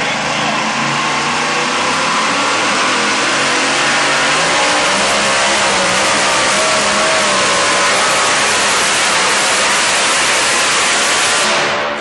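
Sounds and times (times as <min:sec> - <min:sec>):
supercharged engine running hard: 0:00.0 - 0:12.0.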